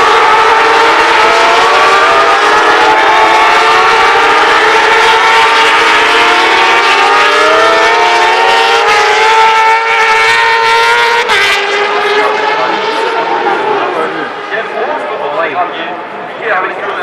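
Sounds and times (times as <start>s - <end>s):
racing motorcycle engines revving: 0.0s - 17.0s.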